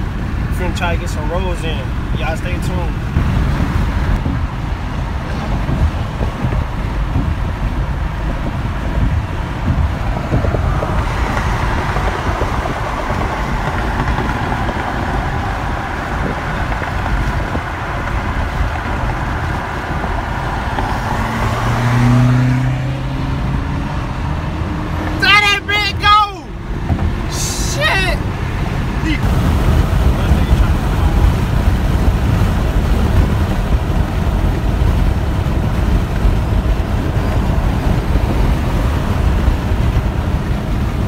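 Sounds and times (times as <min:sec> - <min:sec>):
low steady engine drone: 0:00.0 - 0:41.0
road and wind noise in car: 0:00.0 - 0:41.0.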